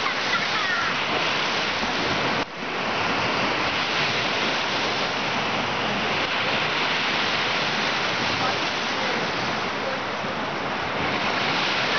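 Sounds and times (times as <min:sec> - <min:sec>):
waves breaking on sandy beach: 0:00.0 - 0:11.9.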